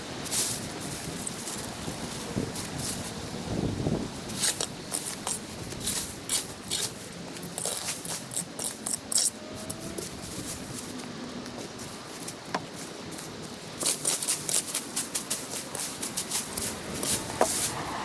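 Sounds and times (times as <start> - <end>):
low steady background noise: 0.0 - 18.0
sharp scrapes and rustles: 0.2 - 11.1, 11.8 - 18.0.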